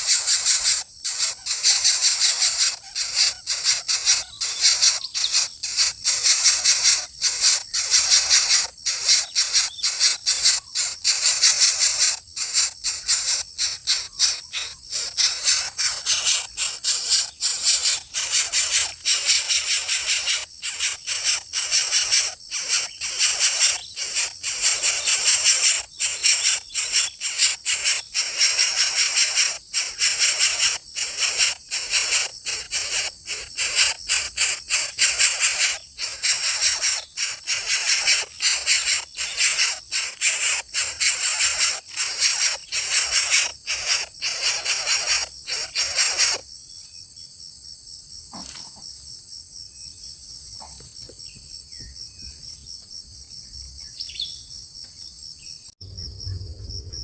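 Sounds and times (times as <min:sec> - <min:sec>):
pulsing loud hiss: 0:00.0 - 0:46.4
faint chirps: 0:00.0 - 0:47.3, 0:53.3 - 0:57.0
crickets chorus: 0:00.0 - 0:57.0.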